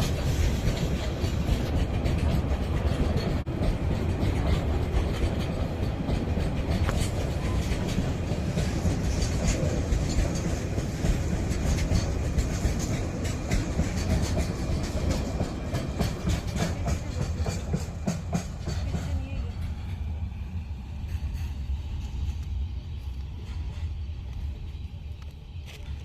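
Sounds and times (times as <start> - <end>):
wheels clacking over rail joints: 0.0 - 22.4
freight train wagons rolling past: 0.0 - 26.0.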